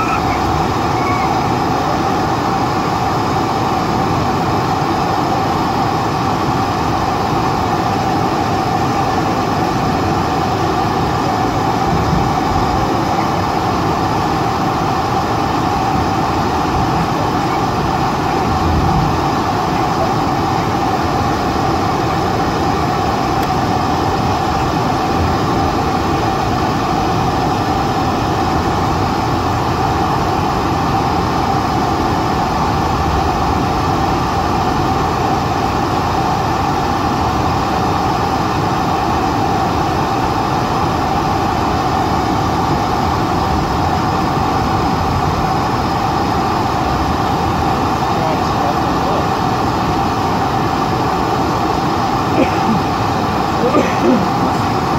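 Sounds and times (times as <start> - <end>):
airplane engine and air rush: 0.0 - 54.9
steady engine whine: 0.0 - 54.9.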